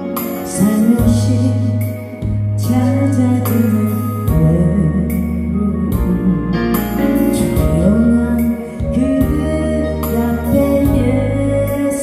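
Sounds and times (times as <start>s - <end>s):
instrumental backing track: 0.0s - 12.0s
person singing ballad: 0.0s - 12.0s.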